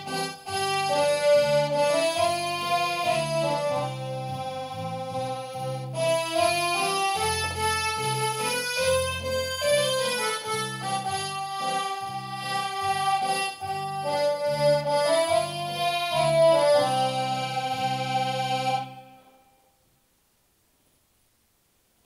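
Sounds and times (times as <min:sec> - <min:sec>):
accordion melody with bass accompaniment: 0:00.0 - 0:19.6.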